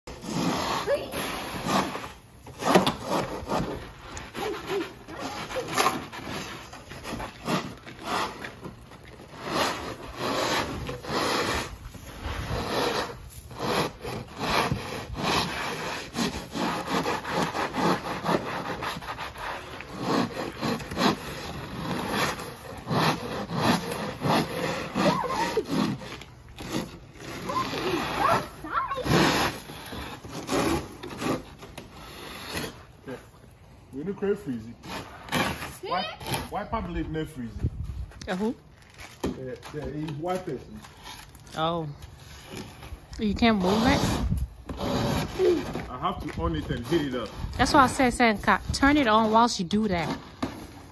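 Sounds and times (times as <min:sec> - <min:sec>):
ice scrapers scraping windshield: 0:00.1 - 0:33.3, 0:34.0 - 0:36.9, 0:38.3 - 0:50.9.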